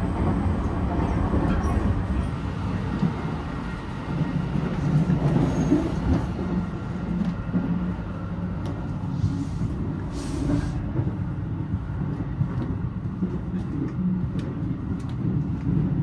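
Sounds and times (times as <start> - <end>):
train rumbling from inside carriage: 0.0 - 16.0.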